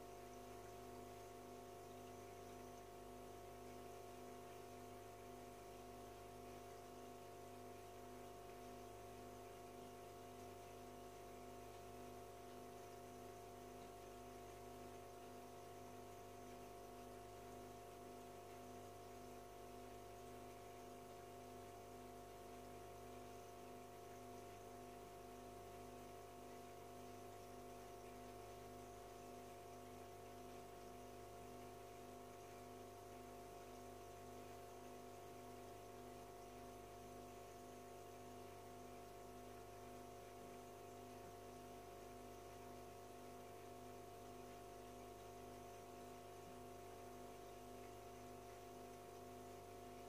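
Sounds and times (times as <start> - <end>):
aquarium filter pump humming: 0.0 - 50.0.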